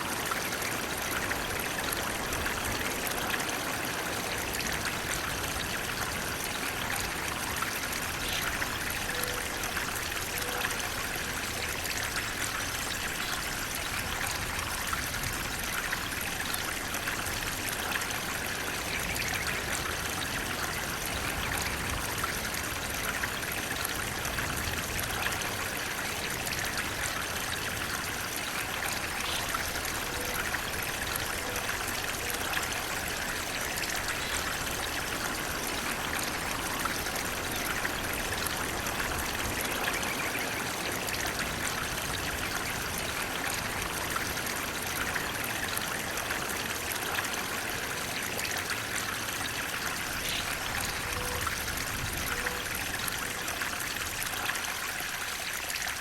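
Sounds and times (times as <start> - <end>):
water splashing steadily: 0.0 - 56.0.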